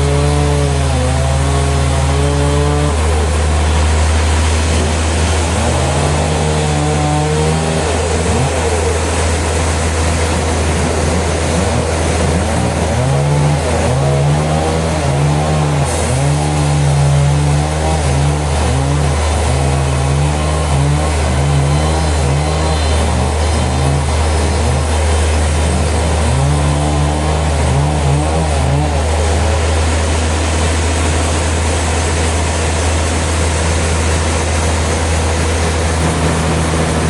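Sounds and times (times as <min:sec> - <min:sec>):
sawmill machinery humming: 0:00.0 - 0:37.0.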